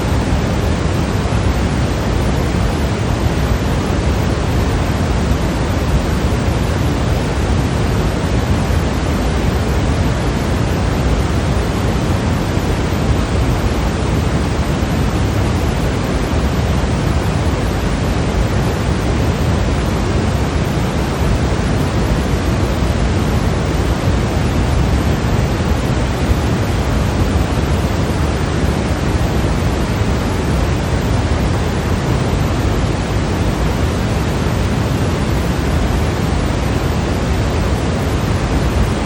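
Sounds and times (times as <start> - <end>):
steady white noise hiss: 0.0 - 39.0.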